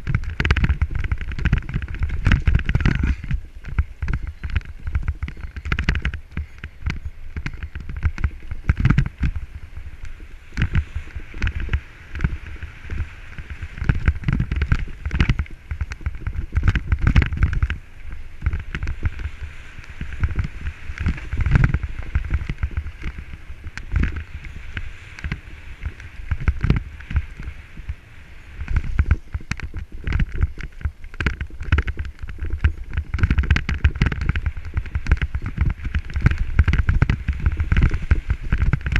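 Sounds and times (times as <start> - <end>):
bike rattling over stones: 0.0 - 38.9
bike tyres on dirt: 0.0 - 38.9
wind on microphone: 0.0 - 38.9.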